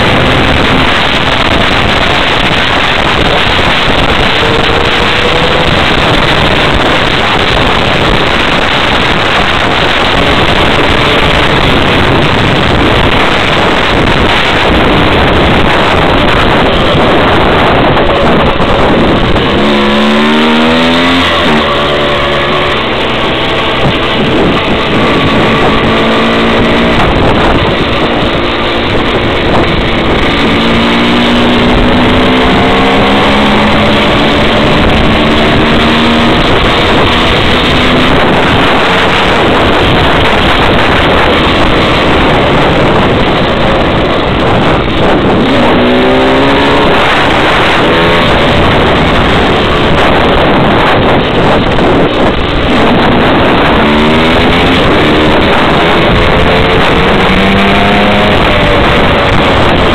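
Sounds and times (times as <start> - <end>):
two-stroke motorcycle engine accelerating: 0.0 - 59.9.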